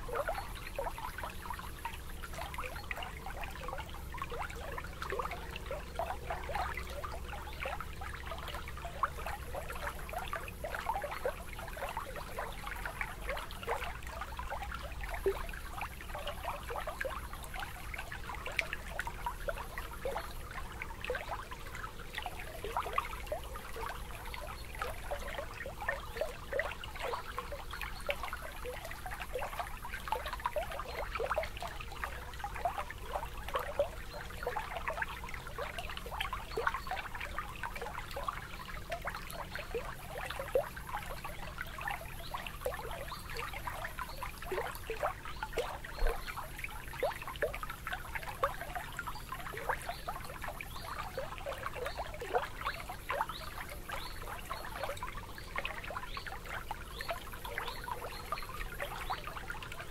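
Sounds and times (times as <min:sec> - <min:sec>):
water lapping and trickling: 0:00.0 - 0:59.9.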